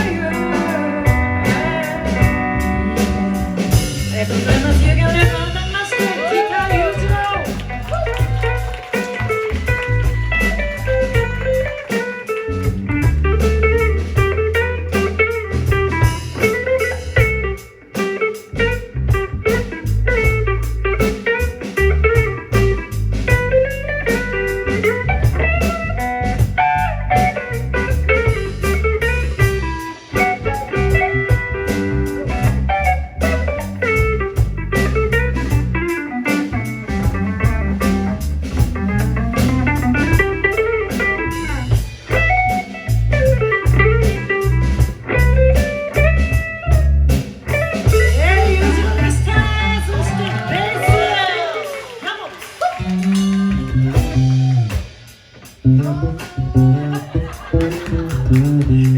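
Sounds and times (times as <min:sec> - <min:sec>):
guitar lead bending notes: 0:00.0 - 0:51.0, 0:52.8 - 0:58.9
heavy bass line: 0:00.0 - 0:51.2, 0:52.9 - 0:58.9
blues band playing: 0:00.0 - 0:58.9
drum kit: 0:00.0 - 0:58.9.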